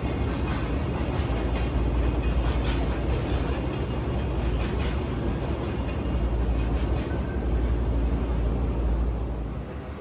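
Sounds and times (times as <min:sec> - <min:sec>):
wheels clacking over rail joints: 0:00.0 - 0:09.2
freight train rolling: 0:00.0 - 0:10.0.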